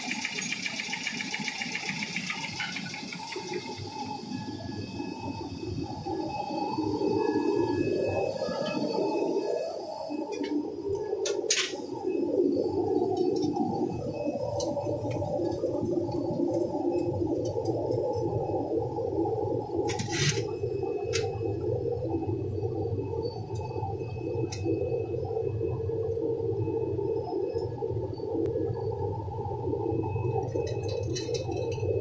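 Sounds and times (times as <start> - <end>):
factory machinery drone: 0.0 - 32.0.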